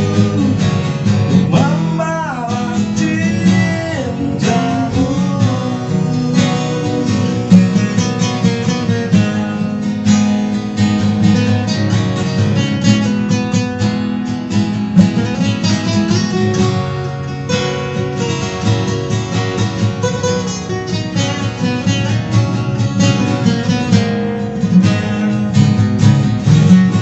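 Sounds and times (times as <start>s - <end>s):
acoustic guitars strumming chords: 0.0s - 27.0s.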